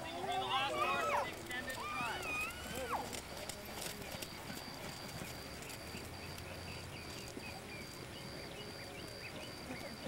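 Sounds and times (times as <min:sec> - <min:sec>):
horse hooves on sand: 0:00.0 - 0:10.0.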